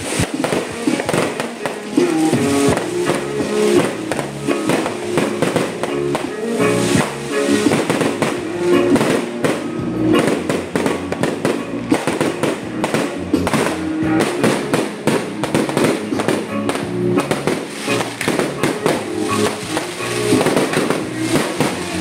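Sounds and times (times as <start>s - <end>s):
fireworks and firecrackers bangs: 0.0s - 22.0s
music playing: 0.0s - 22.0s.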